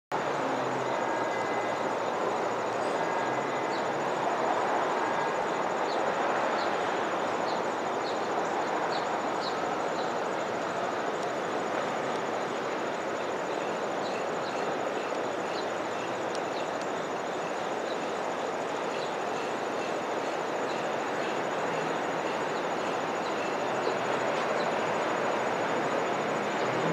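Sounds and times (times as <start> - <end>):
distant city roar: 0.1 - 26.9.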